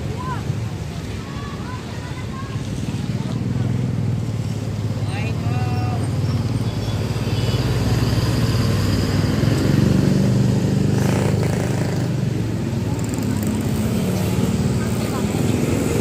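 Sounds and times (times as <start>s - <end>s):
diesel bus engine rumbling: 0.0s - 16.0s.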